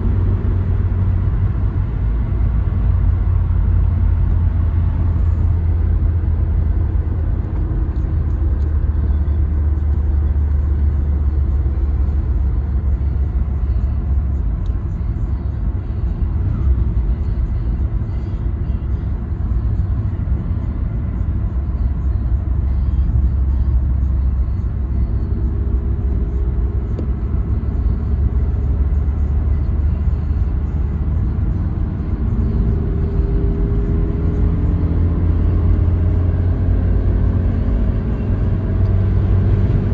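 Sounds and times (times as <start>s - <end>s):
car road noise rumble: 0.0s - 39.9s
faint engine hum: 0.0s - 39.9s.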